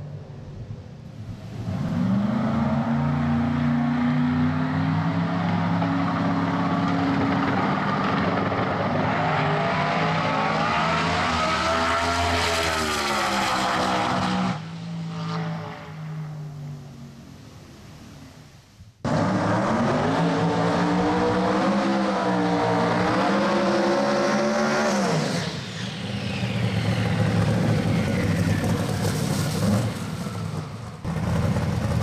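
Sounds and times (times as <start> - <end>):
drag car engine at full throttle: 1.3 - 15.9, 19.0 - 32.0.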